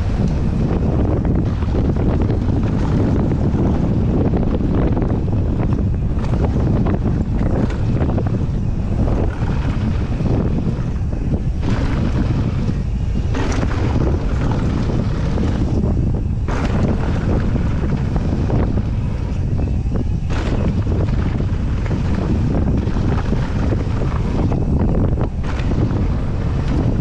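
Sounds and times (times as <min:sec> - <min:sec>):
bike chattering over bumps: 0:00.0 - 0:27.0
wind buffeting microphone: 0:00.0 - 0:27.0.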